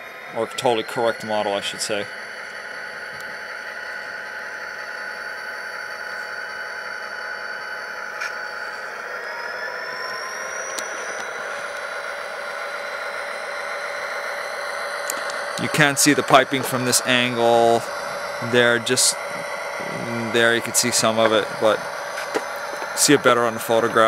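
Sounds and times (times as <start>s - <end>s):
model diesel engine sound with whine: 0.0s - 24.0s.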